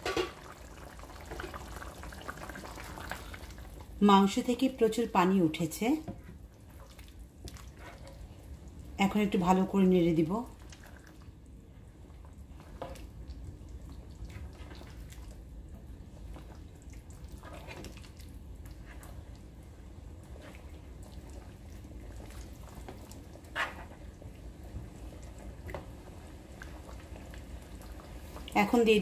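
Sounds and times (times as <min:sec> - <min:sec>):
low steady hum: 0:00.0 - 0:29.0
wet sloshing of stirred meat: 0:00.0 - 0:29.0.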